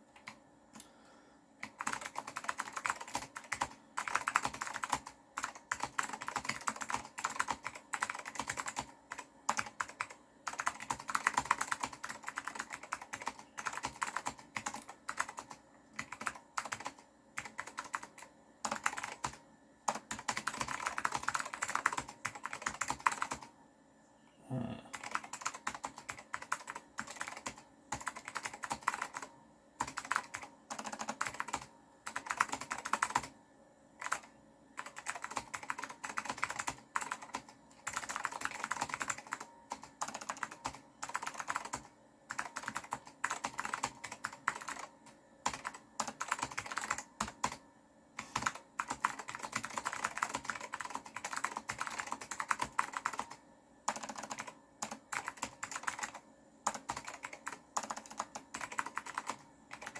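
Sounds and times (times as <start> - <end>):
clicky mechanical keyboard typing: 0.1 - 0.9, 1.6 - 23.5, 24.9 - 33.3, 34.0 - 47.6, 48.2 - 59.9.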